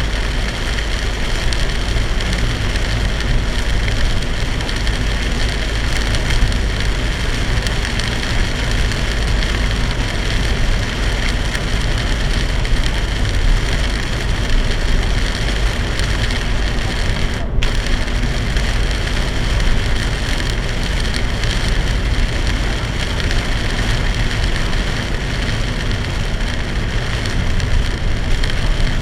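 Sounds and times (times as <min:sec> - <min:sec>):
heavy rain on a car: 0:00.0 - 0:29.0
road and engine rumble: 0:00.0 - 0:29.0.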